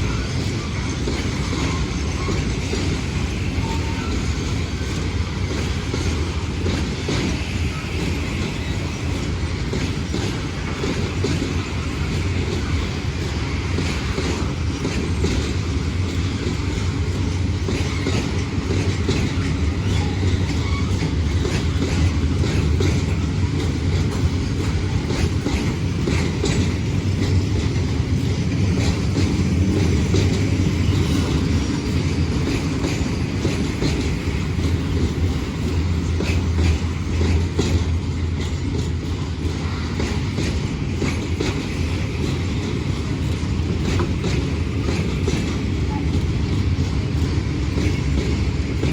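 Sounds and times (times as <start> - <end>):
train wheels rumbling: 0.0 - 48.9
wheels clicking over rail joints: 0.0 - 48.9.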